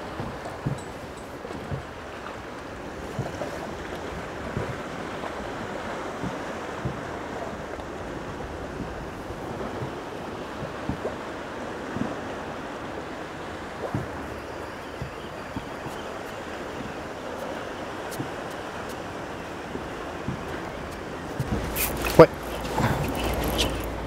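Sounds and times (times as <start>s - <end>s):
water lapping against boat hull: 0.0s - 24.0s
wind on microphone: 2.8s - 24.0s.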